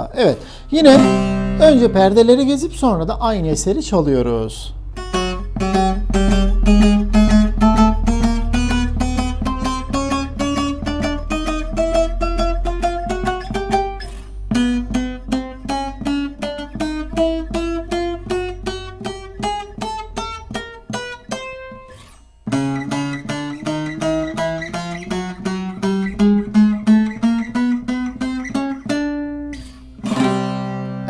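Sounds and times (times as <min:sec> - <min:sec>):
plucked lute single notes: 0:00.5 - 0:02.6, 0:04.8 - 0:31.0.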